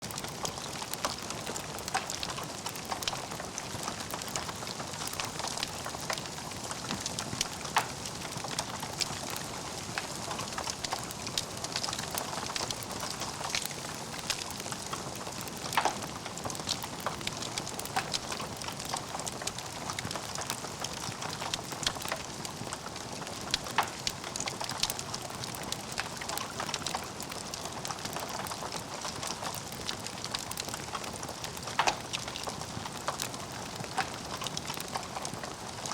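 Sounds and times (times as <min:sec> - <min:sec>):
fire popping: 0:00.0 - 0:35.9
wood fire crackling: 0:00.0 - 0:35.9.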